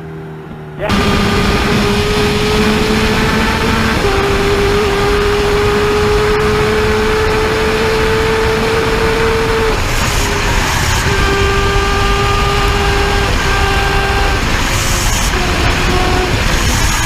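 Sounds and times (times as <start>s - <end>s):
motorcycle engine at high revs: 0.0s - 17.0s
loud rushing noise: 0.8s - 17.0s.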